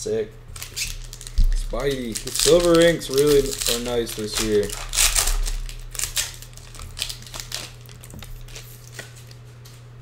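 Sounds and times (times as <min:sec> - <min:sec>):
foil wrapper tearing and crinkling: 0:00.5 - 0:09.5.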